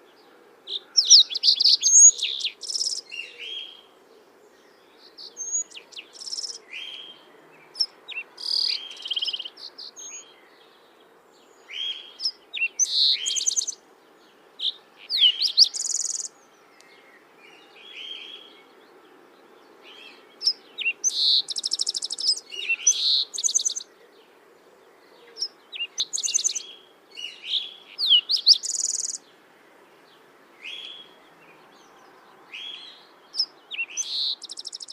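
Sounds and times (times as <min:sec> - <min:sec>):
faint background noise: 0:00.0 - 0:34.9
songbirds chirping and singing: 0:00.0 - 0:34.9.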